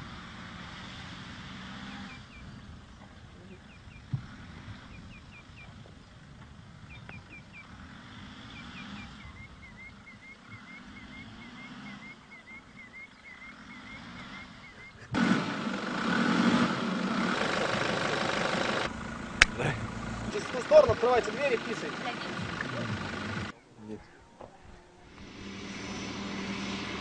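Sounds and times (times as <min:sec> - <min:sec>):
car engine running: 0:00.0 - 0:23.5, 0:25.1 - 0:27.0.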